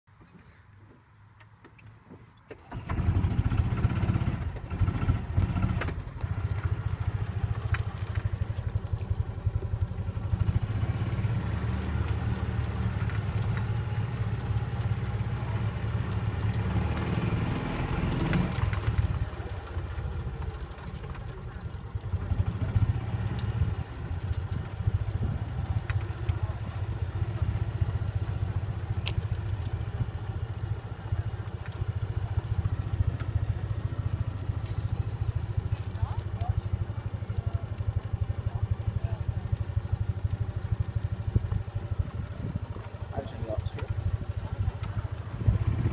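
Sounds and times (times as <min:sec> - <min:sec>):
cart rattling: 0:02.6 - 0:45.9
golf cart engine chugging: 0:02.6 - 0:45.9.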